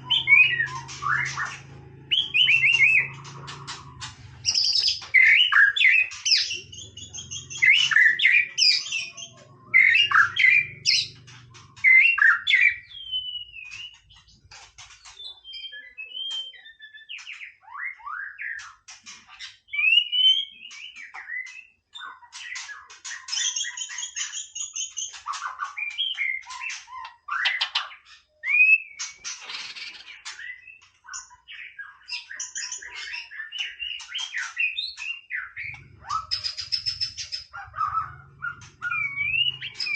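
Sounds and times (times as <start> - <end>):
bird singing whistles and rattles: 0.0 - 39.9.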